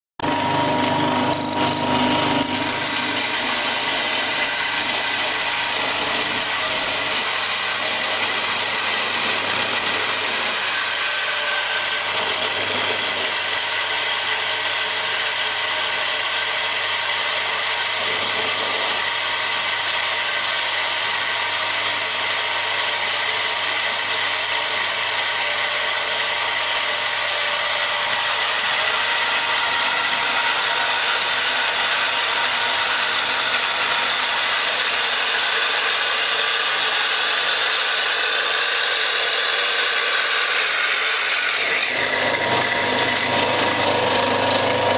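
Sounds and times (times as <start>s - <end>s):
grinding machine whirring: 0.2s - 44.9s.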